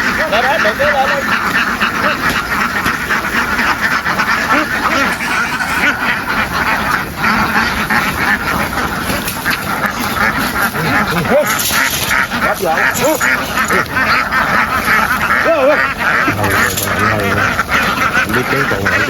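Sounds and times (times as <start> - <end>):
flock of ducks quacking: 0.0 - 19.0.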